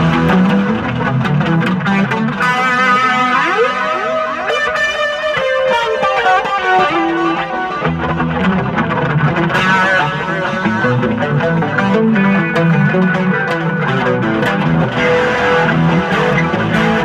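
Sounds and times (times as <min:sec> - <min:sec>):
electric guitar with drive and delay: 0:00.0 - 0:17.0.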